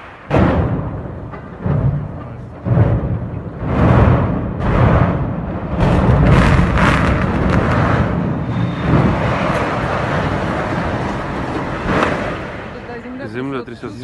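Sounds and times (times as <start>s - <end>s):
explosion deep rumble and blasts: 0.0s - 13.1s.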